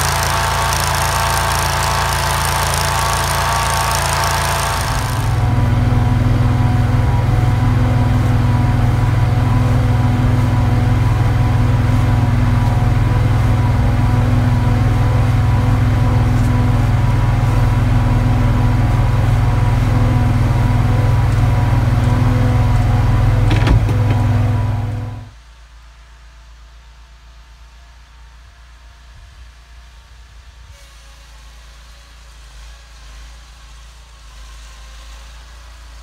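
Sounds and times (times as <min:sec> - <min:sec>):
snow cat engine droning: 0:00.0 - 0:36.0.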